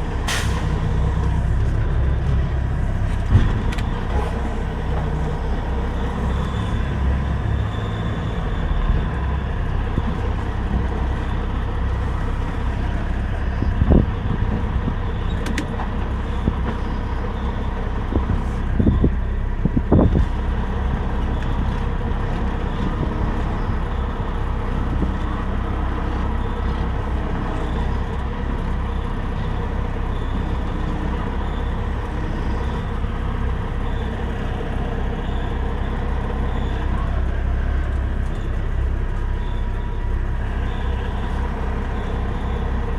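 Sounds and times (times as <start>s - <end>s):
truck engine and road rumble: 0.0s - 42.9s.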